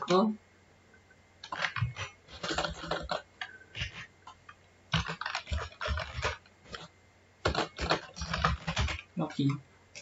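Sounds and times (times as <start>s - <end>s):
keyboard typing: 1.4s - 10.0s.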